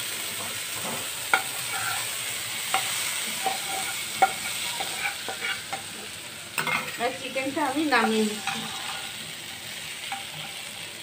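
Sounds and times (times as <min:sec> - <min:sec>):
chicken sizzling in frying pan: 0:00.0 - 0:11.0
metal utensil scraping pan: 0:00.4 - 0:09.2, 0:10.0 - 0:11.0.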